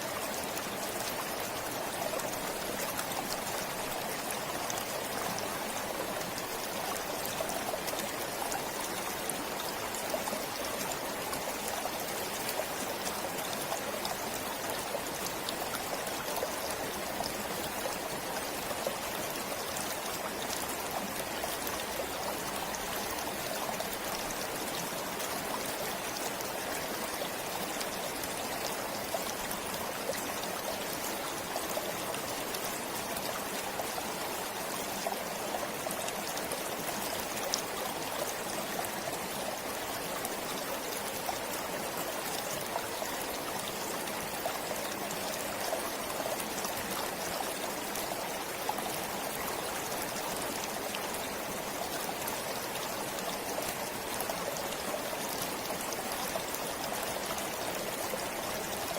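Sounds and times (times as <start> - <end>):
forest stream flowing: 0.0 - 58.9.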